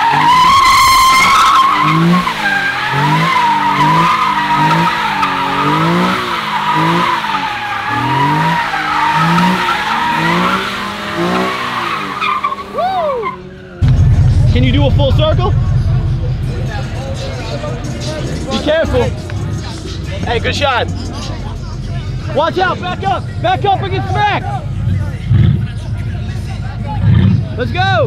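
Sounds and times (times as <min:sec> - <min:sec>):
car tyres squealing: 0:00.0 - 0:27.8
car engine revving: 0:00.0 - 0:28.0.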